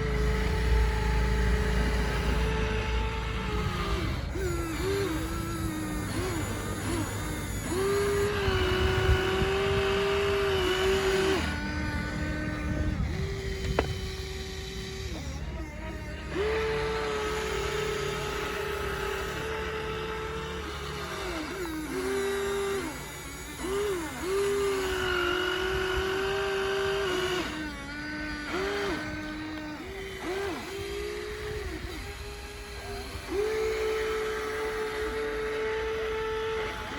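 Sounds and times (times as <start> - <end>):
toy electric motor whine: 0.0 - 36.9.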